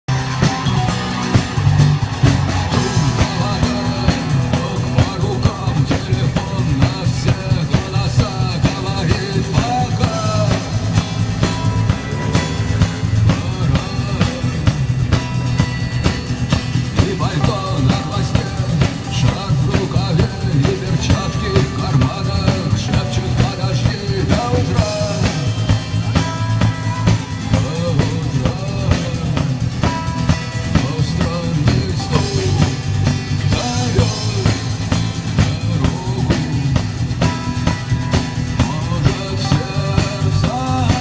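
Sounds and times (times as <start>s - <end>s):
drum kit steady beat: 0.0s - 41.0s
heavy bass line: 0.0s - 41.0s
live rock band playing: 0.0s - 41.0s.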